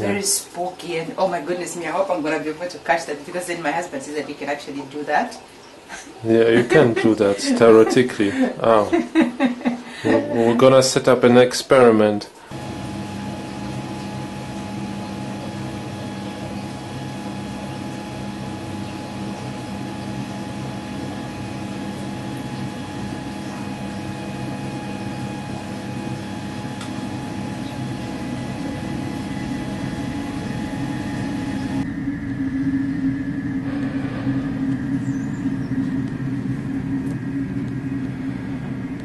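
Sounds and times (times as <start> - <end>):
steady hum with tones: 5.9 - 39.0.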